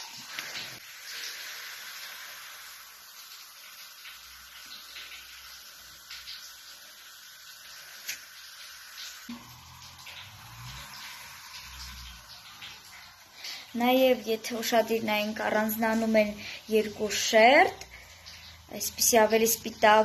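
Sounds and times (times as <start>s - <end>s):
liquid fizzing in glass: 0.0s - 20.0s.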